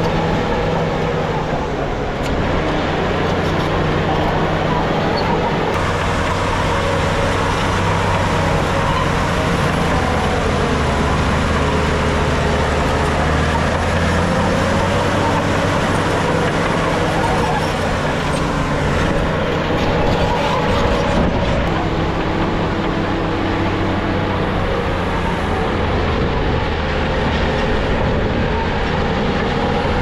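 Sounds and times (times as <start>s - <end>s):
low diesel engine drone: 0.0s - 30.0s.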